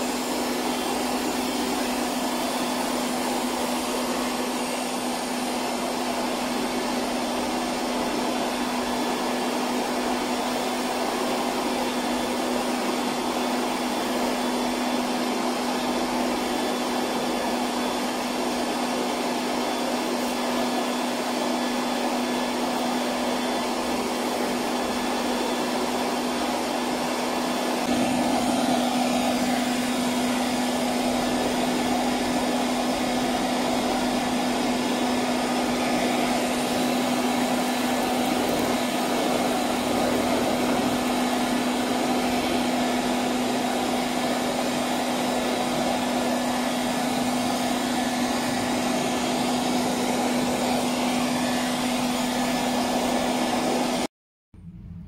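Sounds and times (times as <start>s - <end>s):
robot vacuum cleaner running: 0.0s - 54.1s.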